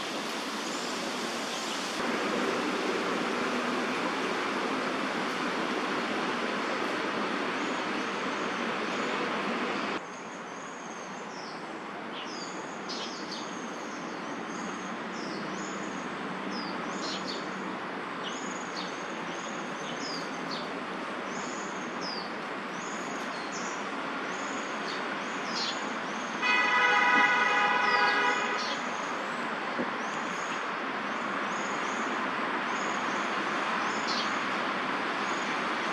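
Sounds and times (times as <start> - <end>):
distant city traffic hum: 0.0 - 35.9.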